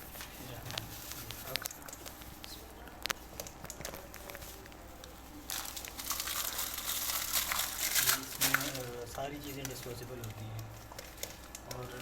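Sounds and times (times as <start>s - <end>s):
crinkling of plastic supplies: 0.2s - 12.0s.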